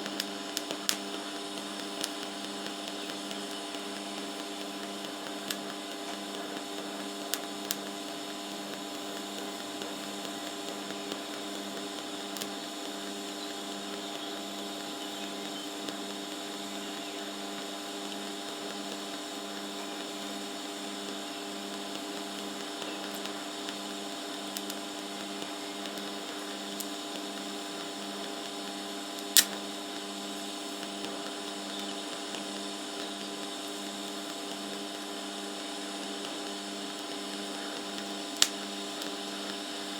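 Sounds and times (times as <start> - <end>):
welder humming and hissing: 0.0 - 39.9.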